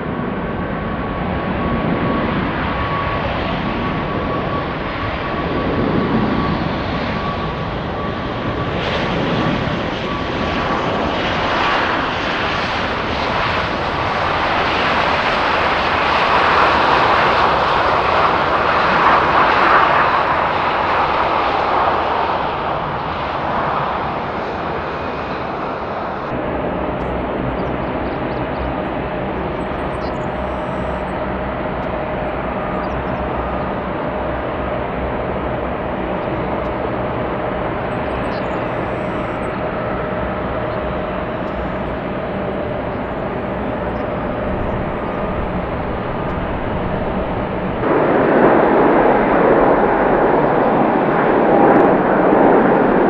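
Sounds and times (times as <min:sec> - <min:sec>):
jet engines running with whine: 0:00.0 - 0:53.0.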